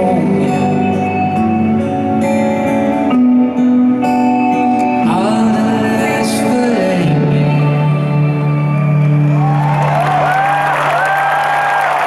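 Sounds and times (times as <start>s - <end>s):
live band holding low chord: 0.0s - 10.4s.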